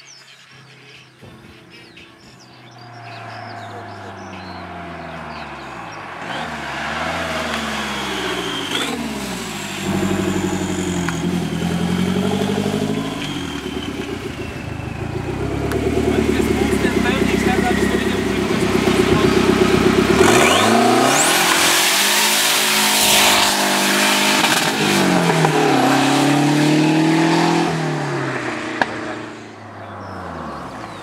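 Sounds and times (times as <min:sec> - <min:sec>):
car engine revving: 0:02.6 - 0:31.0.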